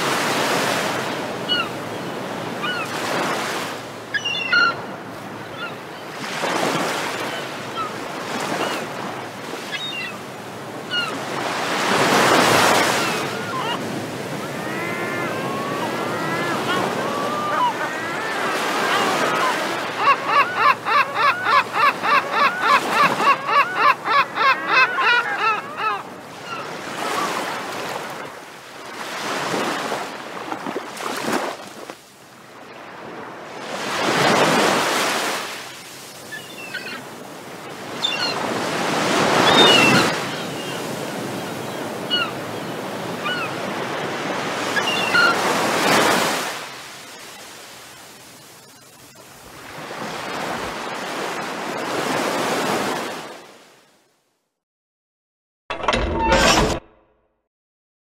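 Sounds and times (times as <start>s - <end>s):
sea waves breaking: 0.0s - 53.7s.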